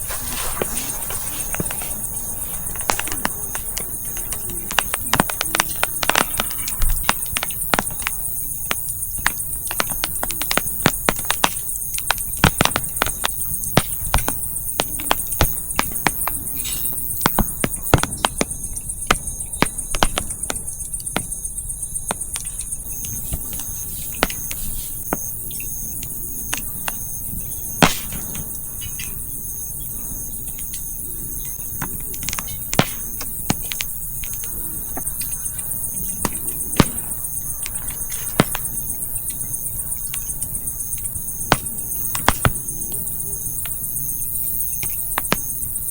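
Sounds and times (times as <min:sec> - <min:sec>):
campfire crackling and popping: 0:00.0 - 0:29.7, 0:30.3 - 0:45.9
insects chirring: 0:00.0 - 0:45.9.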